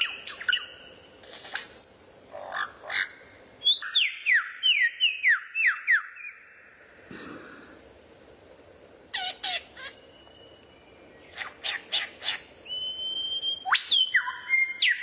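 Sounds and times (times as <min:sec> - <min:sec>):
songbird calling: 0:00.0 - 0:06.8, 0:09.1 - 0:15.0.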